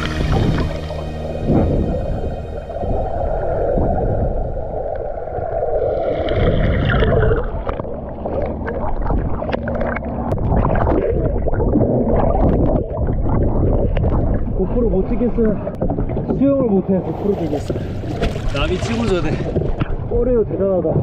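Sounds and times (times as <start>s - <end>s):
muffled underwater rumble: 0.0s - 21.0s
water gurgling: 0.0s - 21.0s.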